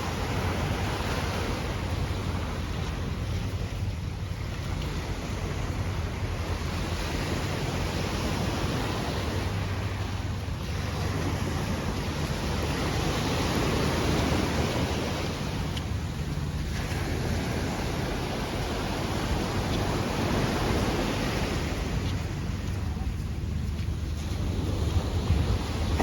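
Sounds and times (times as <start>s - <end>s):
sea water rushing: 0.0s - 26.0s
wind buffeting microphone: 0.0s - 26.0s.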